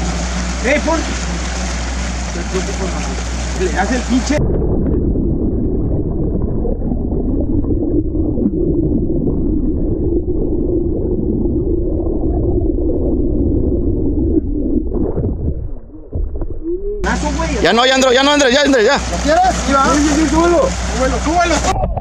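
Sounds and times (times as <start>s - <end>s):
boat engine hum through water: 0.0s - 22.0s
underwater rushing water and bubbles: 0.0s - 22.0s.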